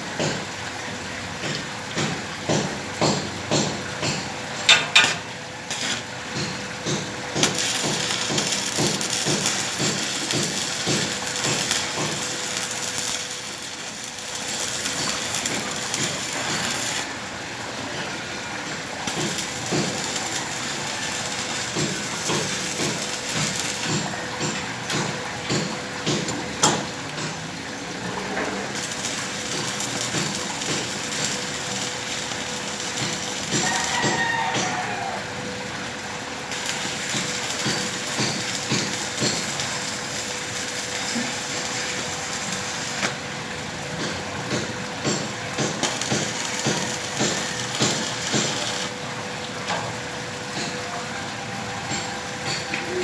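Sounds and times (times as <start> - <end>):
arc welding crackling hiss: 1.4 - 17.2, 18.7 - 28.0, 28.6 - 49.0.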